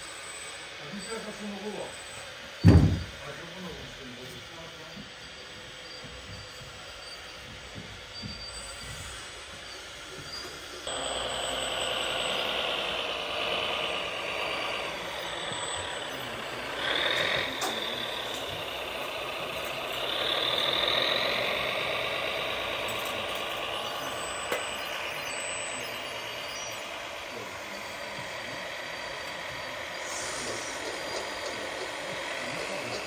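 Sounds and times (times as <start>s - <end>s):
electric motors whining: 0.0s - 33.0s.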